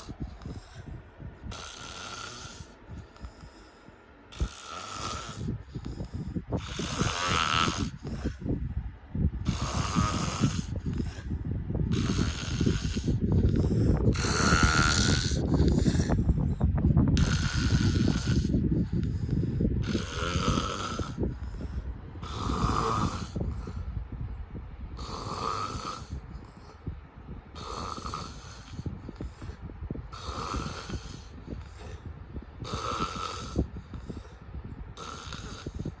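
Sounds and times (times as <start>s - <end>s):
person snoring: 0.0s - 0.8s, 1.5s - 3.7s, 4.3s - 8.4s, 9.4s - 11.3s, 11.9s - 16.2s, 17.2s - 23.8s, 25.0s - 26.7s, 27.5s - 32.0s, 32.6s - 34.4s, 35.0s - 36.0s
steady low rumble: 0.0s - 36.0s.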